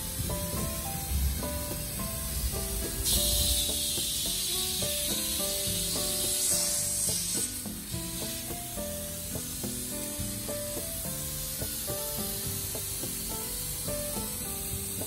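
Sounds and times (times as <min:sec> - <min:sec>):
light melodic background music: 0:00.0 - 0:15.0
refrigerant gas hissing: 0:00.0 - 0:15.0.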